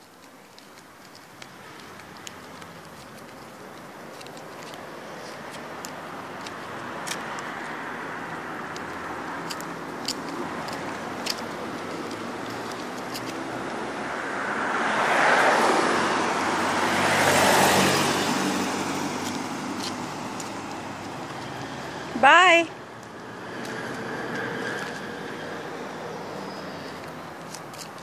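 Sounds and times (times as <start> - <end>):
cars passing: 0.0 - 28.0
road traffic hiss: 0.0 - 28.0.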